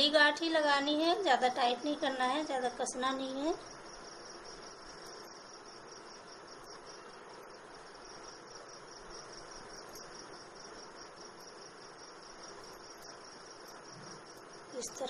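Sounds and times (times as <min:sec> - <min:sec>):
crickets chirping: 0:00.0 - 0:15.0
faint constant hiss: 0:00.0 - 0:15.0.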